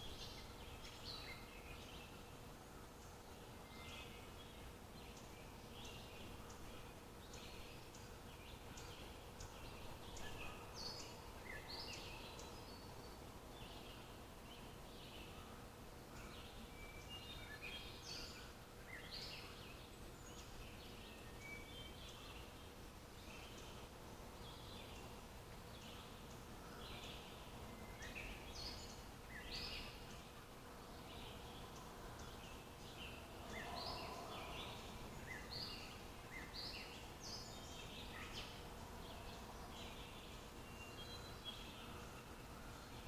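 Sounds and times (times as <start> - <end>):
faint steady hum: 0.0 - 43.0
small birds chirping: 0.0 - 43.0.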